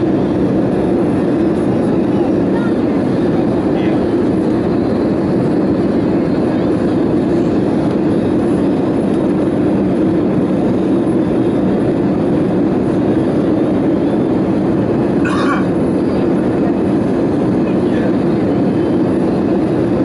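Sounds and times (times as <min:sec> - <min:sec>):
aircraft cabin engine roar: 0:00.0 - 0:20.0.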